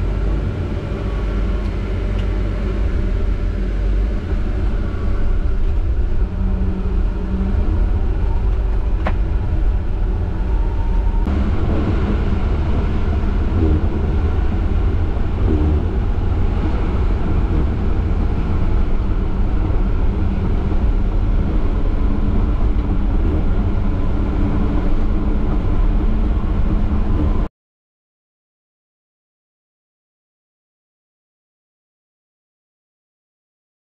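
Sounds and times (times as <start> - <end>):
diesel engine rumble: 0.0 - 27.5.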